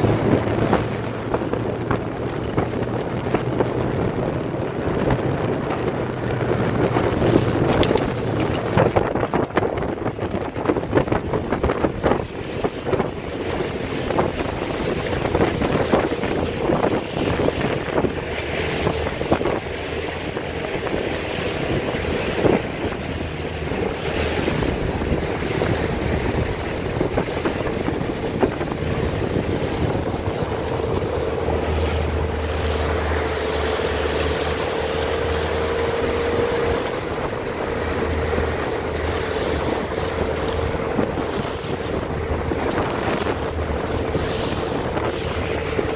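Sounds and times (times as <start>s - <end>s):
water splashing along boat hull: 0.0s - 45.9s
wind buffeting microphone: 0.0s - 45.9s.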